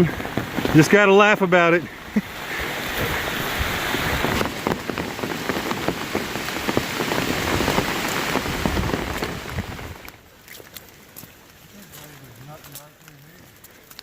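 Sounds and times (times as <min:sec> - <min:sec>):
rain falling: 0:00.0 - 0:14.0
raindrops ticking close by: 0:00.0 - 0:14.0.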